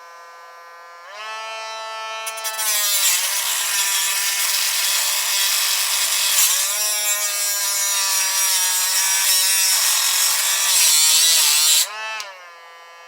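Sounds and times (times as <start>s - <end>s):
power tool grinding metal: 1.0s - 12.5s.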